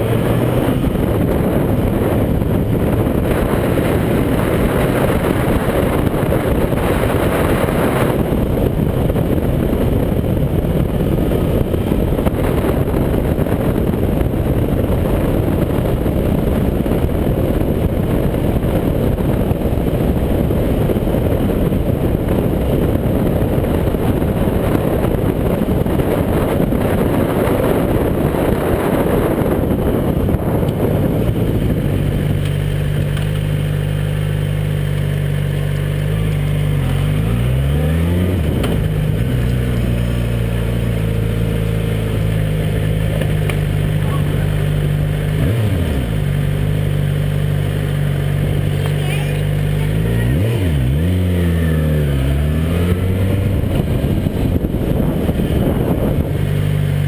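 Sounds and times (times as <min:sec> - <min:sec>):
low wind rumble on microphone: 0:00.0 - 0:57.0
motorcycle engine running: 0:00.0 - 0:57.0.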